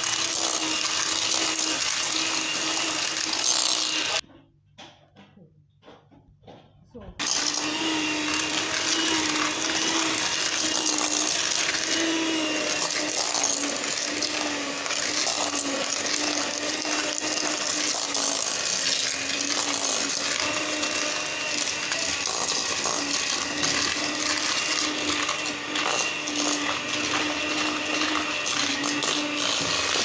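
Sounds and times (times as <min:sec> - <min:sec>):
electric mixer running: 0:00.0 - 0:04.2, 0:07.2 - 0:30.0.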